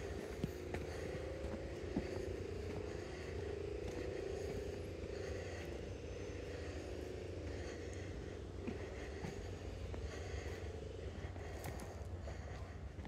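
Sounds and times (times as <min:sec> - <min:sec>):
distant traffic hum: 0:00.0 - 0:13.0
footsteps on dirt path: 0:00.0 - 0:13.0.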